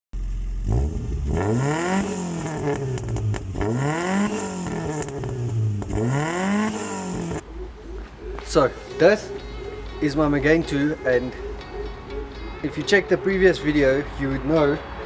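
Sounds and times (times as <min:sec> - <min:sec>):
car engine revving: 0:00.2 - 0:15.0.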